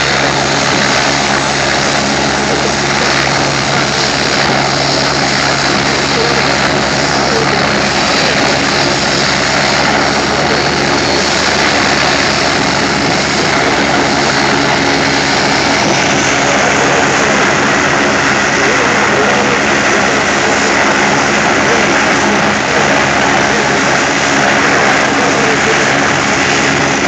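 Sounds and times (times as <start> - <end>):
helicopter engines and rotor: 0.0 - 27.0.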